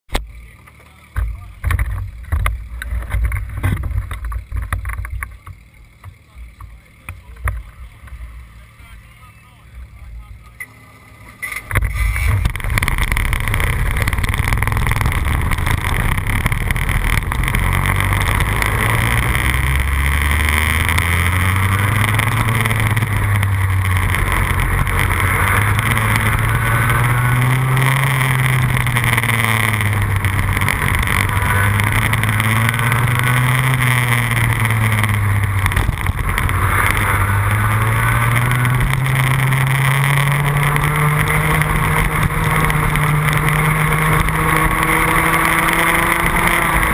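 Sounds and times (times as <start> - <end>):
kart engine revving: 0.1 - 46.9.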